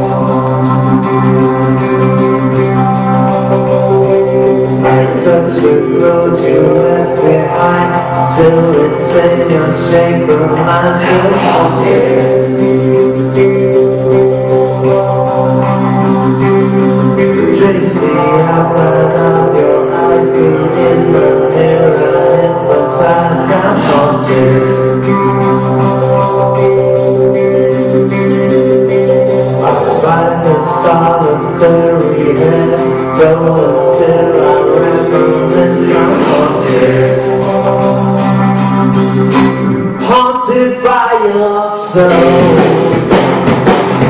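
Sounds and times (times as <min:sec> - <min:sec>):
live band playing: 0:00.0 - 0:44.0
strummed guitars: 0:00.0 - 0:44.0.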